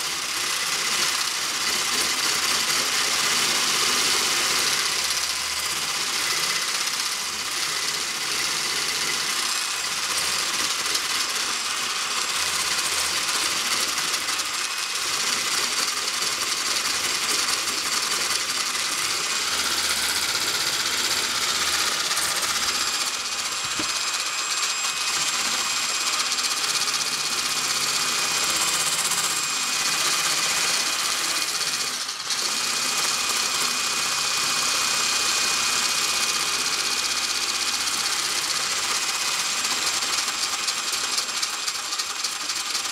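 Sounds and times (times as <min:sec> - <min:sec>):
electric mixer whining: 0:00.0 - 0:42.9.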